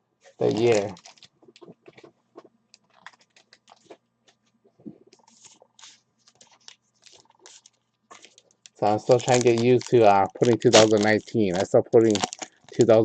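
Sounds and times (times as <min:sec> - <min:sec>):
faint light clicks and crackles: 0:00.9 - 0:12.8.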